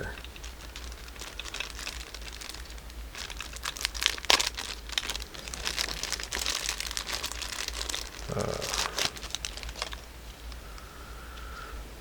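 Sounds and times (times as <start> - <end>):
packaging crinkling: 0.0 - 10.9.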